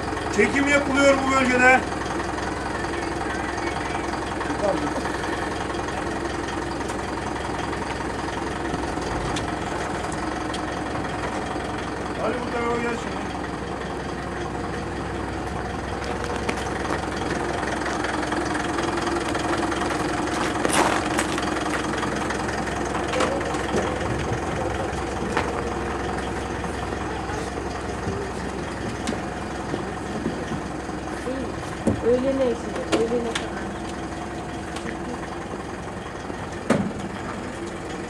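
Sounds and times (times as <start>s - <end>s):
truck engine idling: 0.0s - 38.0s.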